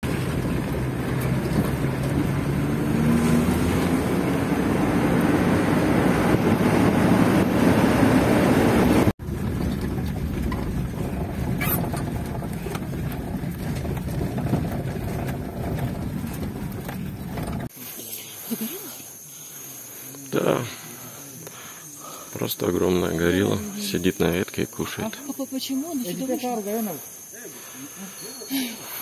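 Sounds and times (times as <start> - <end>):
vehicle rumbling on dirt road: 0.0 - 29.0.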